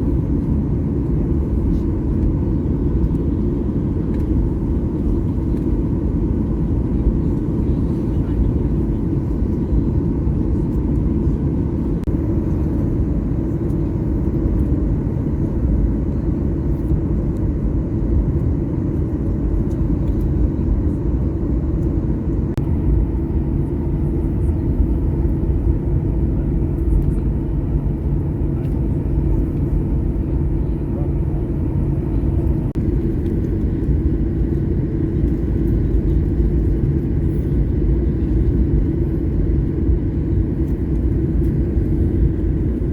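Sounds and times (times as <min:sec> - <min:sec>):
airliner cabin rumble and hum: 0:00.0 - 0:42.9.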